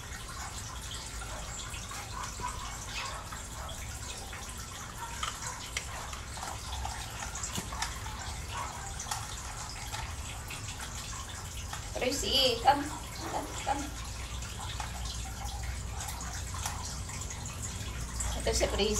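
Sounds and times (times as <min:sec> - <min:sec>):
faint ticks and drip-like clicks: 0:00.0 - 0:18.9.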